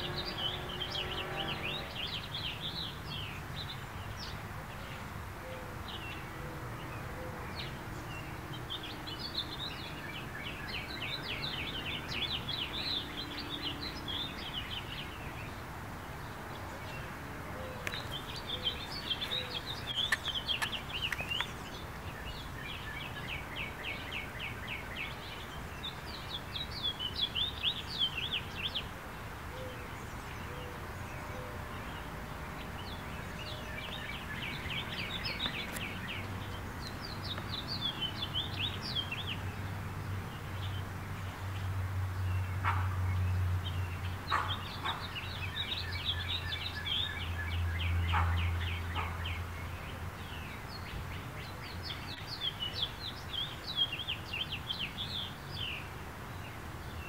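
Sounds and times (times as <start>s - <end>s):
birds chirping: 0.0s - 57.0s
steady background noise: 0.0s - 57.0s.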